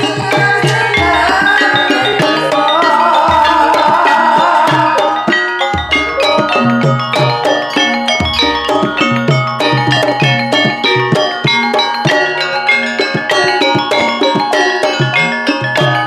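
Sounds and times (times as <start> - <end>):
drumming: 0.0 - 16.0
gamelan music: 0.0 - 16.0.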